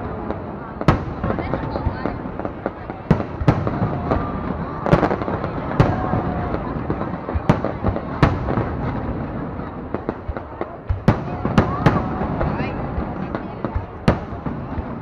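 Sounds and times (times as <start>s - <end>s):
fireworks bursts and bangs: 0.0s - 15.0s.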